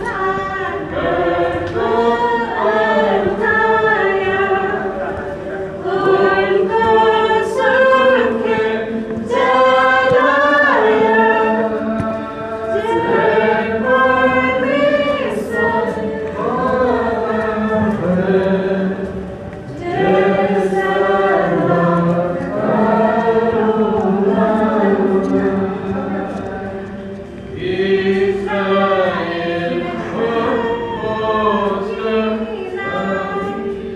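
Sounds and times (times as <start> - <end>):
choir singing a hymn: 0.0 - 33.9.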